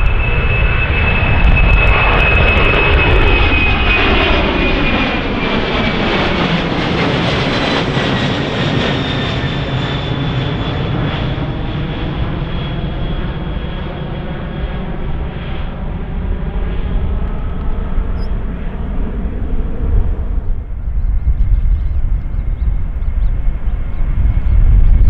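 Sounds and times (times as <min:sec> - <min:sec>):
jet engines passing: 0:00.0 - 0:25.0.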